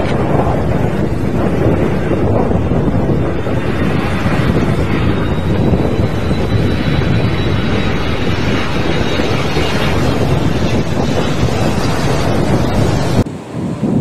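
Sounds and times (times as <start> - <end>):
jet engines running: 0.0 - 14.0
wind rumble on microphone: 0.0 - 14.0.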